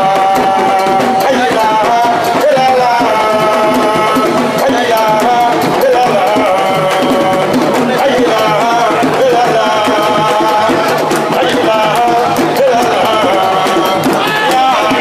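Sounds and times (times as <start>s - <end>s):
drums and percussion: 0.0s - 15.0s
person singing long notes: 0.0s - 15.0s.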